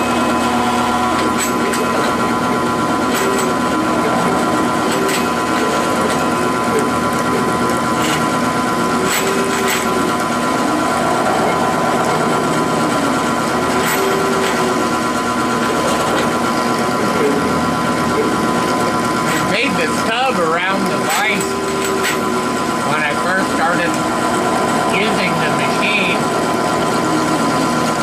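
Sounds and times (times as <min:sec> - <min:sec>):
axis motors rising and falling: 0:00.0 - 0:28.0
milling spindle whine: 0:00.0 - 0:28.0.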